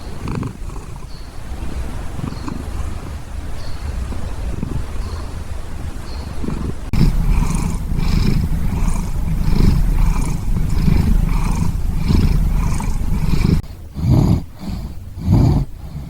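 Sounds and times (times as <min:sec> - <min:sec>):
cat snoring: 0:00.0 - 0:03.3, 0:03.9 - 0:05.4, 0:06.3 - 0:16.0.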